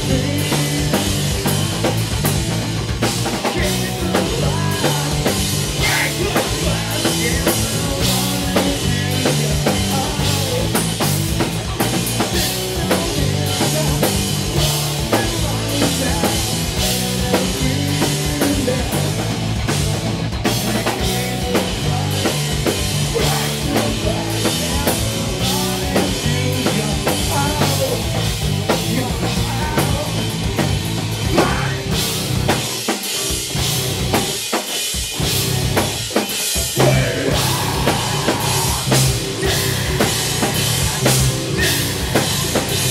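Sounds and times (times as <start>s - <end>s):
bass guitar: 0.0s - 42.9s
distorted guitars: 0.0s - 42.9s
driving drum kit: 0.0s - 42.9s
rock band playing loud: 0.0s - 42.9s.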